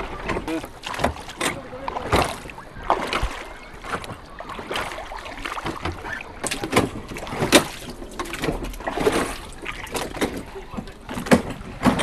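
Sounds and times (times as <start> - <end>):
floodwater splashing: 0.0 - 12.0.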